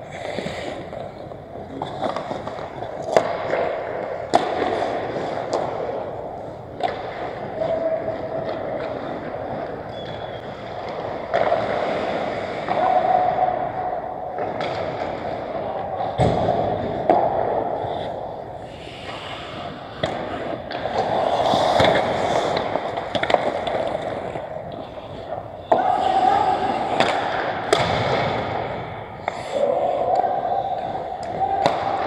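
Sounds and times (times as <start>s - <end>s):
hockey sticks and puck clacking: 0.0s - 32.0s
skates scraping on ice: 0.1s - 32.0s.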